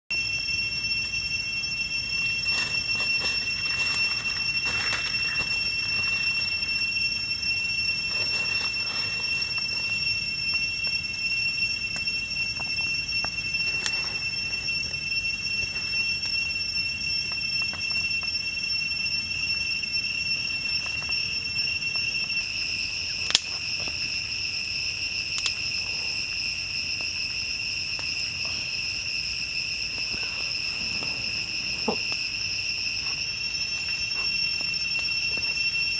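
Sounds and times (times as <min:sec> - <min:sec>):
forest insects droning: 0:00.1 - 0:35.9.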